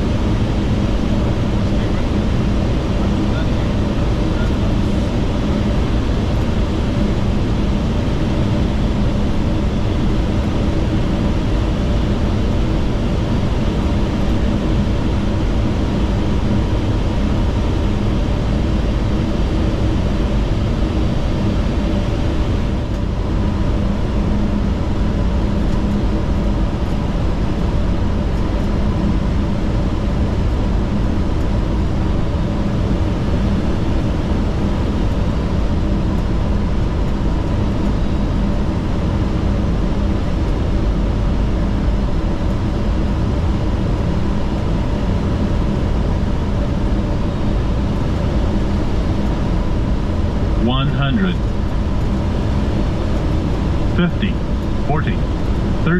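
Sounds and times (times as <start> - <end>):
airflow and engine rush: 0.0 - 55.9
faint steady hums: 0.0 - 55.9.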